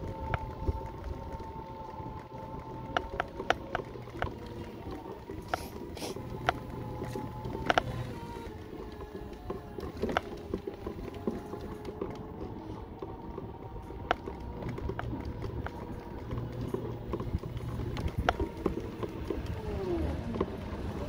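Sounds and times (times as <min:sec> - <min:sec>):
electric motor whining: 0:00.0 - 0:21.0
tyres rumbling over rough surface: 0:00.0 - 0:21.0.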